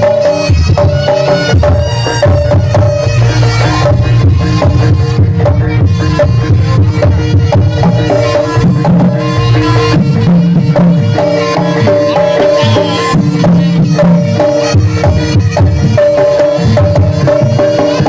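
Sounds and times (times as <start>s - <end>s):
fast hand-drum strokes: 0.0s - 18.0s
ringing pitched gamelan tones: 0.0s - 18.0s.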